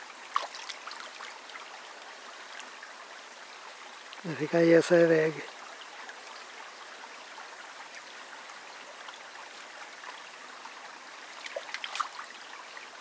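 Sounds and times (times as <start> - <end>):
stream trickling over gravel: 0.0 - 13.0.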